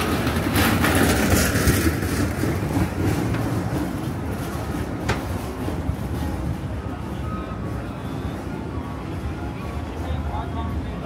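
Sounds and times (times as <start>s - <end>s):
low rumble of passing traffic: 0.0s - 11.0s.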